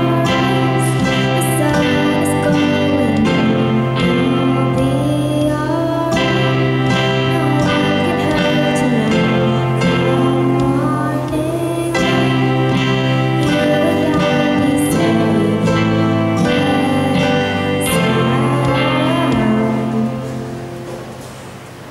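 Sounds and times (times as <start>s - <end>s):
girl singing into microphone: 0.0s - 21.3s.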